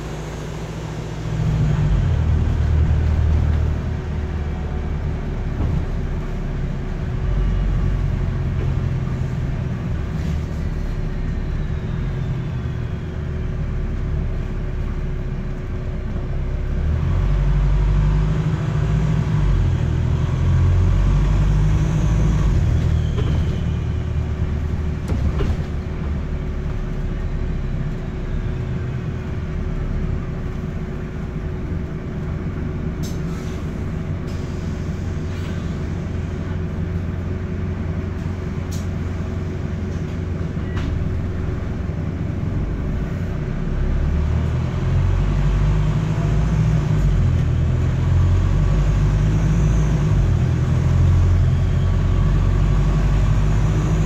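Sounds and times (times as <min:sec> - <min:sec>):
bus diesel engine rumble: 0:00.0 - 0:54.0.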